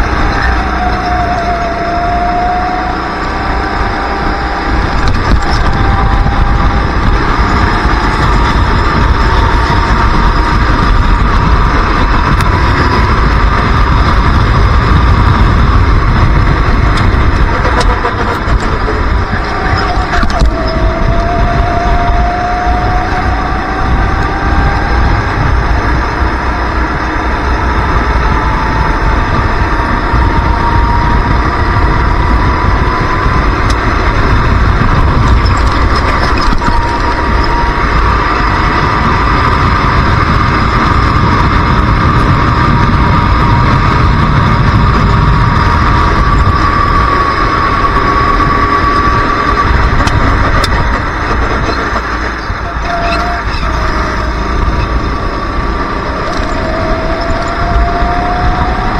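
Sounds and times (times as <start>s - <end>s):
go-kart engine whine: 0.0s - 58.9s
steady low rumble: 0.0s - 58.9s.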